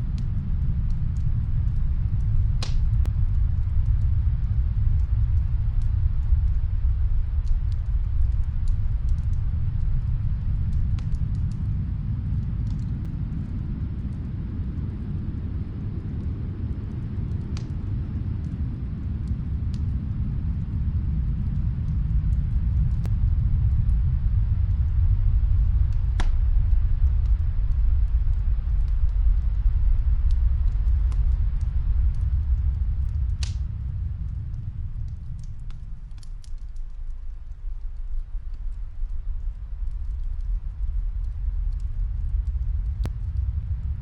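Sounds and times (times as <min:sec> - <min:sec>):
faint fireplace crackles: 0:00.0 - 0:44.0
snowstorm wind rumbling: 0:00.0 - 0:44.0.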